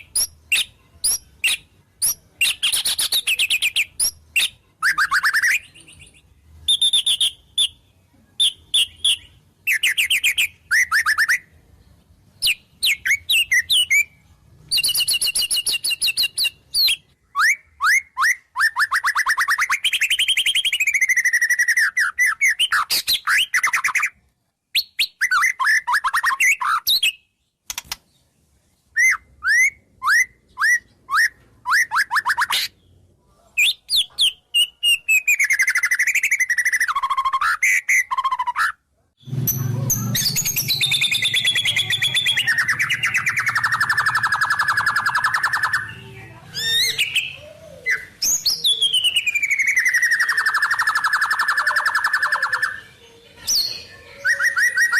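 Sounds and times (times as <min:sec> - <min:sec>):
bird singing whistled phrases: 0:00.0 - 0:07.8, 0:08.4 - 0:11.5, 0:12.4 - 0:24.1, 0:24.7 - 0:27.3, 0:28.9 - 0:32.7, 0:33.6 - 0:52.9, 0:53.5 - 0:54.9.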